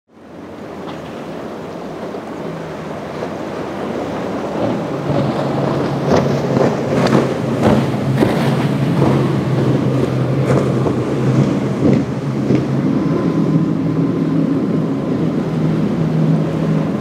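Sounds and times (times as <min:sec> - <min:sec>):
boat engine hum: 0:00.1 - 0:17.0
surf wash: 0:00.1 - 0:17.0
hull splashing on waves: 0:00.2 - 0:17.0
wind buffeting microphone: 0:00.2 - 0:17.0.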